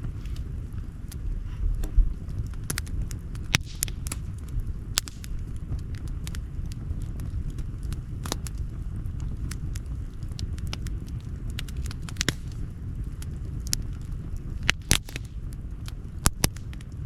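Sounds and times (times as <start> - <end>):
campfire crackling and popping: 0.0 - 17.0
steady low rumble: 0.0 - 17.0.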